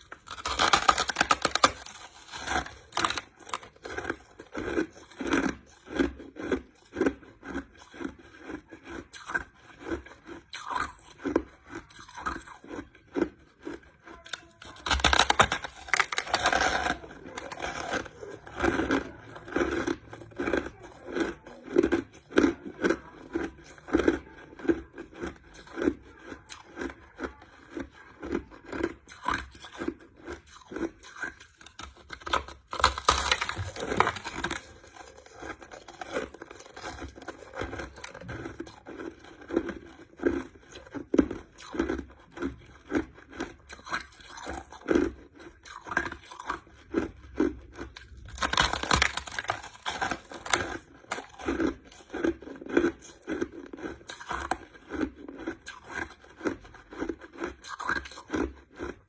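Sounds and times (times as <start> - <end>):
crushed ice being chewed: 0.0 - 59.0.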